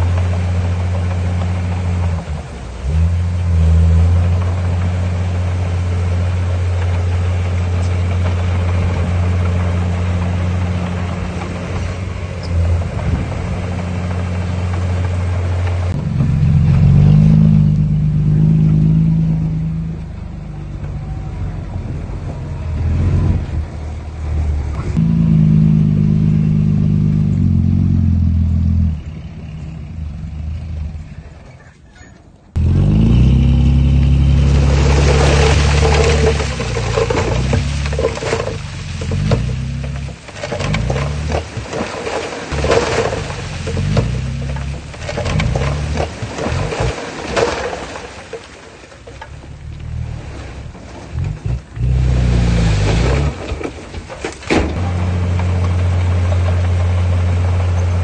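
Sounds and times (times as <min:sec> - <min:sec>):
heavy machinery diesel engine: 0:00.0 - 0:31.6, 0:32.5 - 0:58.0.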